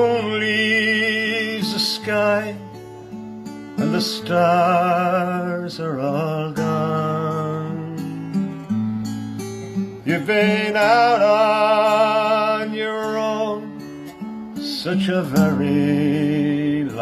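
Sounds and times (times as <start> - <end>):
man singing slow song: 0.0 - 2.8, 3.8 - 8.6, 10.0 - 13.9, 14.6 - 17.0
strummed acoustic guitar: 0.0 - 17.0.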